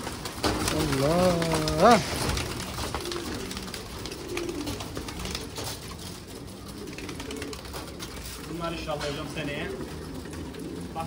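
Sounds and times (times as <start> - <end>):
wings fluttering: 0.0 - 9.0
pigeons cooing: 0.0 - 11.0.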